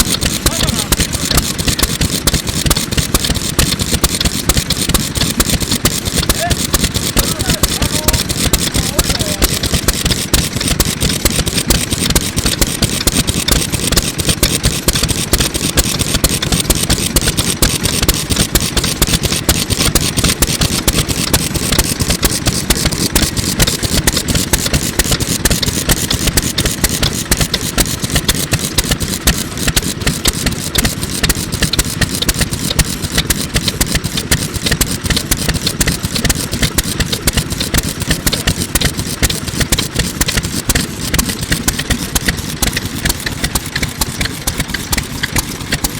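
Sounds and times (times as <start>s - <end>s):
single-cylinder engine running: 0.0s - 45.9s.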